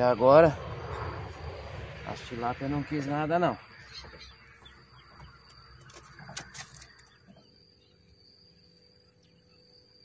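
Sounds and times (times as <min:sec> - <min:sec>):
faint birdsong: 0:00.0 - 0:10.0.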